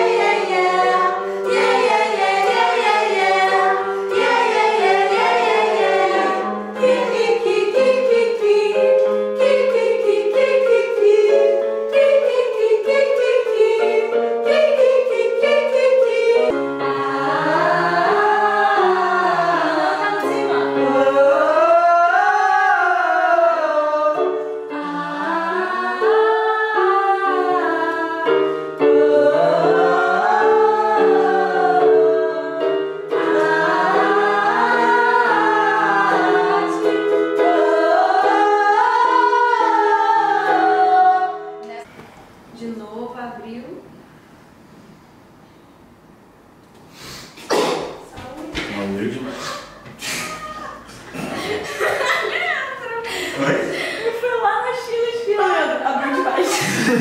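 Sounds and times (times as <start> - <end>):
group singing vocal exercises: 0.0 - 41.9, 49.4 - 57.0.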